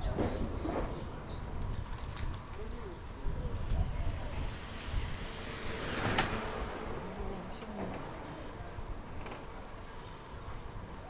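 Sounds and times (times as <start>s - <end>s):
wind rumble on microphone: 0.0s - 9.2s.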